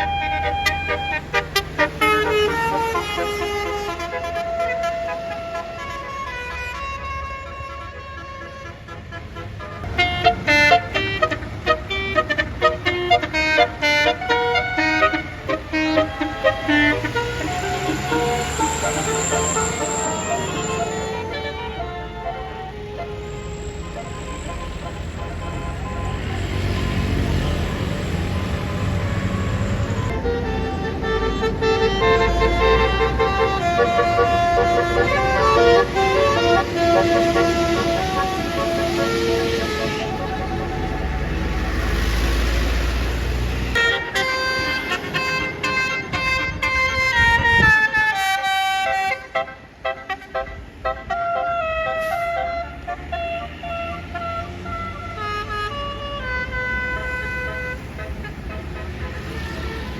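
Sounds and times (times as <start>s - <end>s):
bus musical horn melody: 0.0s - 59.9s.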